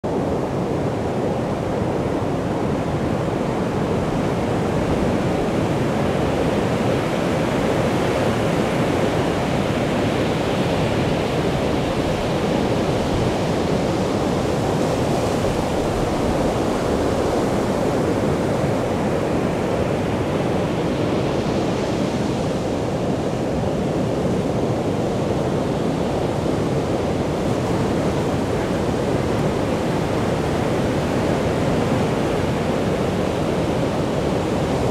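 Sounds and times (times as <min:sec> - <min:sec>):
waves breaking on beach: 0:00.1 - 0:34.9.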